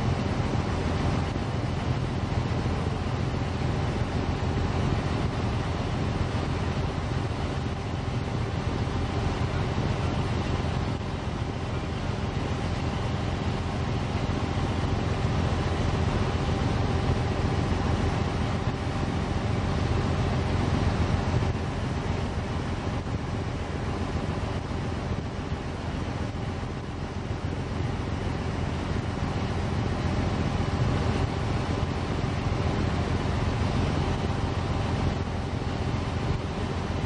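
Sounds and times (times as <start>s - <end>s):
boat engine rumble: 0.0s - 37.0s
faint steady hum: 0.0s - 37.0s
rushing water noise: 0.0s - 37.0s.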